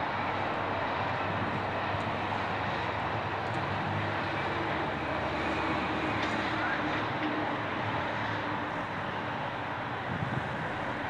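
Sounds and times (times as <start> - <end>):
low engine hum: 0.0 - 11.0
road and traffic noise: 0.0 - 11.0.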